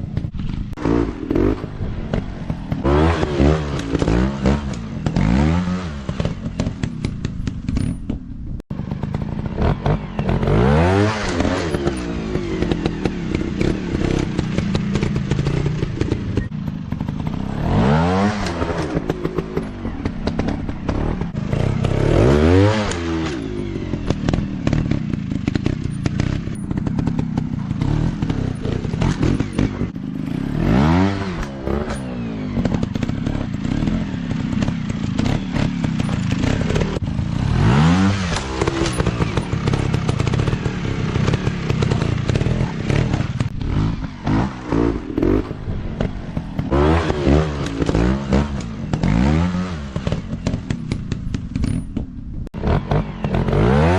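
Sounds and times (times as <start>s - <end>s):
motocross bike engine revving: 0.0s - 8.0s, 8.7s - 53.9s.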